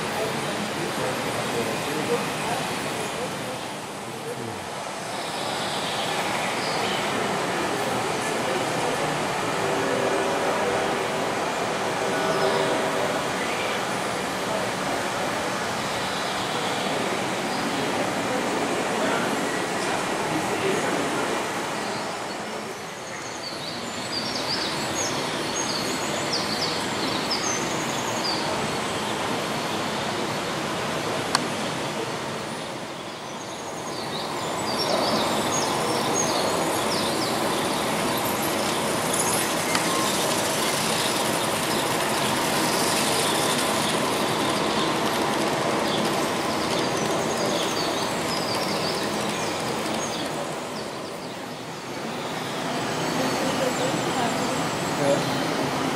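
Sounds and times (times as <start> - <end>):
model train wheels on track: 0.0 - 55.9.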